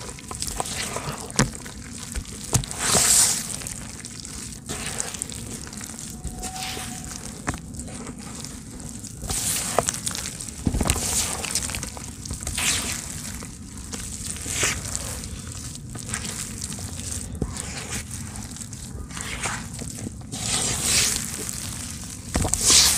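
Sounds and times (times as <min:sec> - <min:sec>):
hands crumbling wet dirt: 0:00.0 - 0:22.9.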